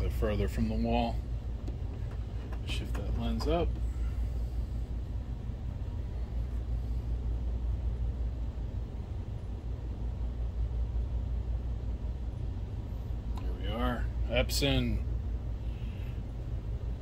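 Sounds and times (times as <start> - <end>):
projector cooling fans: 0.0 - 17.0.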